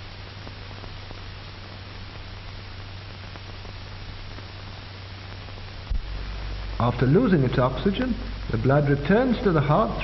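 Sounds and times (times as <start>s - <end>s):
film soundtrack hiss and hum: 0.0s - 10.0s.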